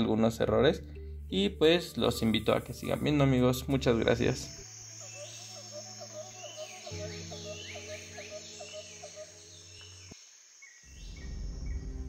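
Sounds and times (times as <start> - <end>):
birds chirping: 0.8 - 12.0
insects: 2.0 - 12.0.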